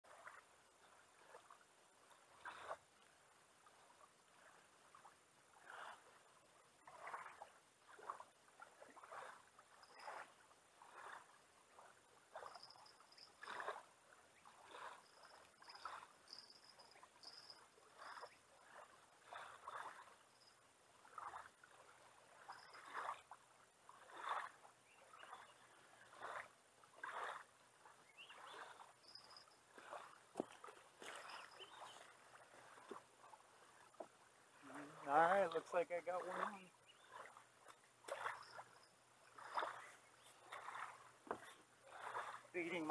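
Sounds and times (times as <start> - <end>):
small waves lapping: 0.0 - 42.9.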